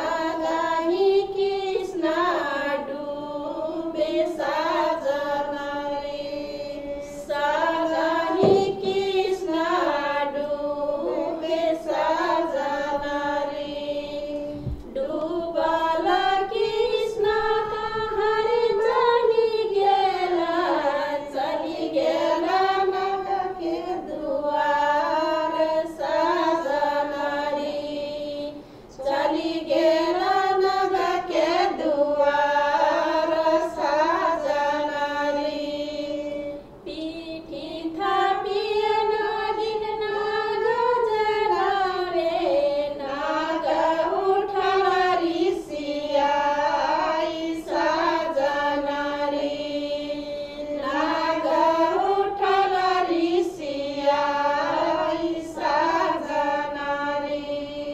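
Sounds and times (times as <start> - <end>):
women singing folk song: 0.0 - 57.9.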